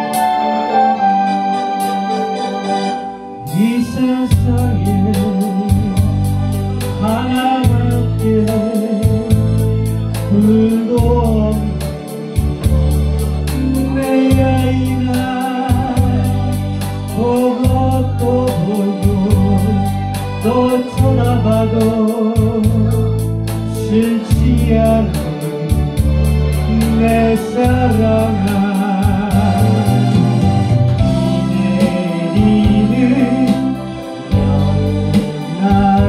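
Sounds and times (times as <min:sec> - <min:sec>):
electronic organ: 0:00.0 - 0:36.0
man singing into microphone: 0:03.4 - 0:12.4, 0:13.5 - 0:36.0
deep bass: 0:03.4 - 0:36.0.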